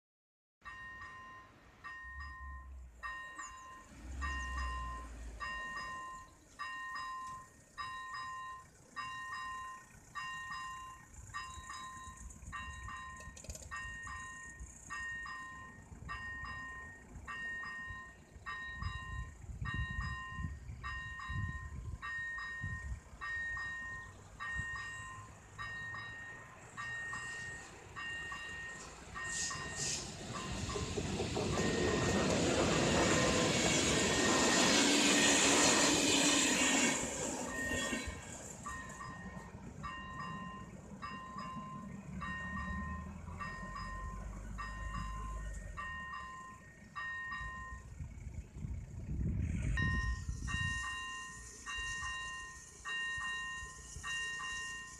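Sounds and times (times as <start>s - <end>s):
two-tone level crossing bell: 0.6s - 34.8s, 37.5s - 48.0s, 49.7s - 54.9s
train rumbling: 0.6s - 54.9s.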